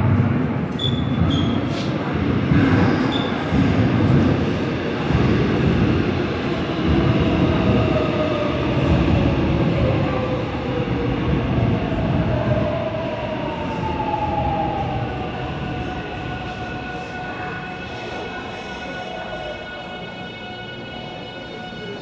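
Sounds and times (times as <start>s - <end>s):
train wheels rumbling: 0.0s - 20.6s.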